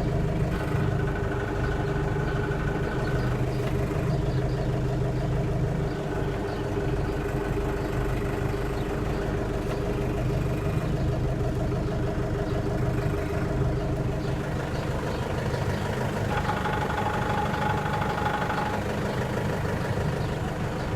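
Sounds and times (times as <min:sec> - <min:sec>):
tractor diesel engine idling: 0:00.0 - 0:20.9.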